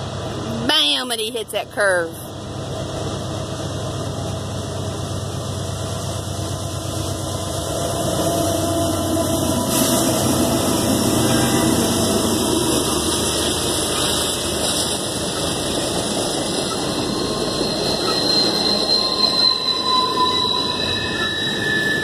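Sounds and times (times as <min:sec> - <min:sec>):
diesel locomotive engines: 0:00.0 - 0:22.0
freight cars rolling on rails: 0:00.0 - 0:22.0.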